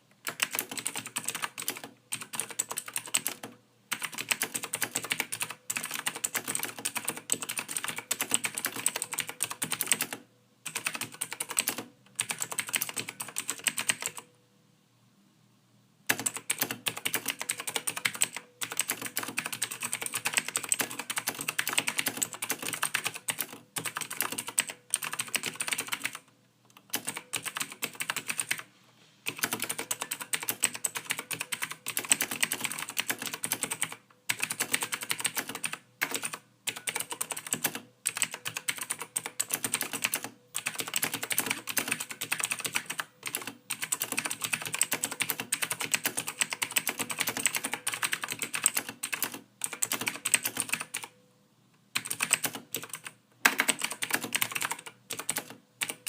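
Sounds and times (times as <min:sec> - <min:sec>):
typing on computer keyboard: 0:00.2 - 0:14.3, 0:16.1 - 0:51.2, 0:51.9 - 0:56.0.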